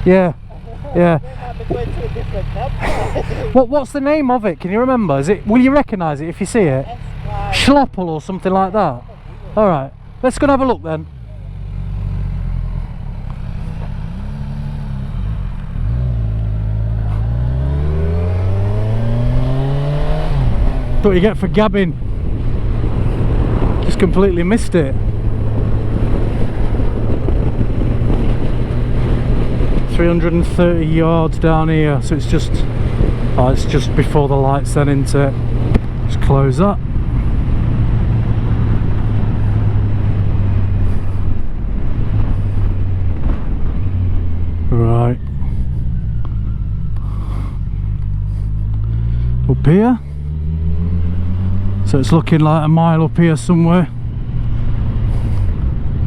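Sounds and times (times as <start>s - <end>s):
wind and road noise: 0.0s - 56.0s
motorcycle engine pulling away: 10.1s - 56.0s.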